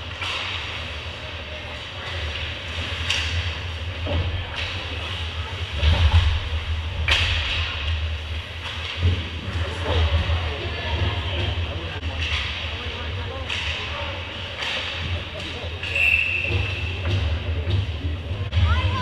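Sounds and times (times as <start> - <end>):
hockey sticks and puck clacking: 0.0 - 10.4, 12.0 - 18.1
low rink rumble and hiss: 0.0 - 19.0.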